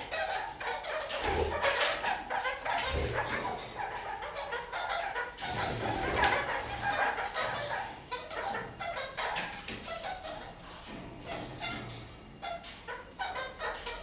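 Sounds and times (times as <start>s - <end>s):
parakeets chattering: 0.0s - 14.0s.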